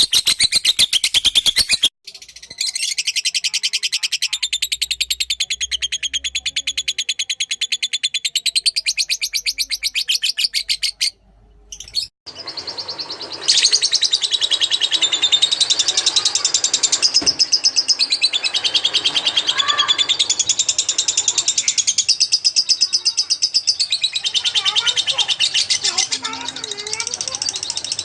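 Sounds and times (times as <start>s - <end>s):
lovebird chattering trill: 0.0s - 28.0s.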